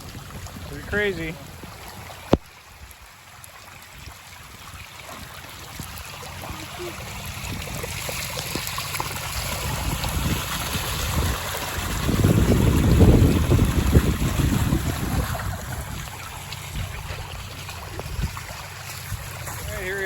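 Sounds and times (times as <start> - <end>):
water rushing down a road: 0.0 - 20.0.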